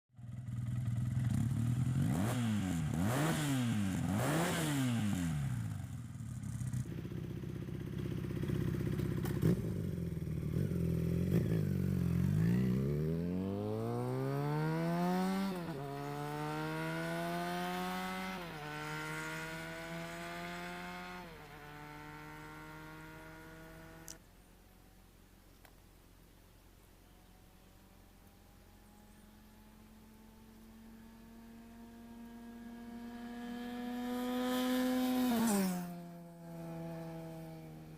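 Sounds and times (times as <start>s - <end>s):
motorcycle accelerating through gears: 0.2s - 24.2s, 27.3s - 37.9s
motorcycle engine revving: 0.2s - 24.2s, 27.9s - 37.9s.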